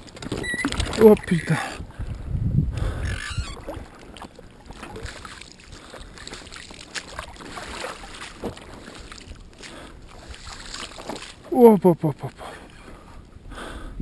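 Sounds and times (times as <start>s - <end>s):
water sloshing and splashing: 0.0s - 11.6s.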